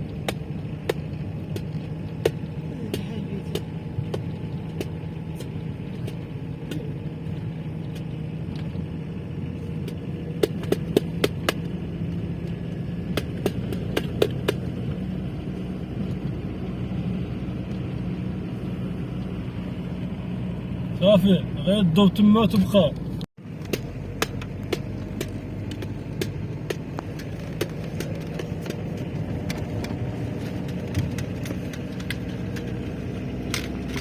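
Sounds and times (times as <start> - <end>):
vehicle low hum: 0.0 - 34.0.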